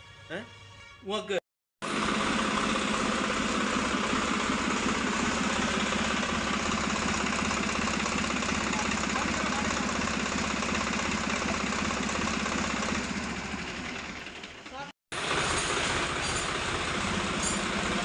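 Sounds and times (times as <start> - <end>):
tractor diesel engine idling: 1.8 - 18.0.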